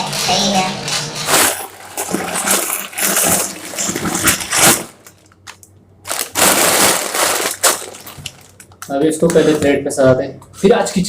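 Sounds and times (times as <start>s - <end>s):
snack packets crinkling: 0.1s - 9.8s.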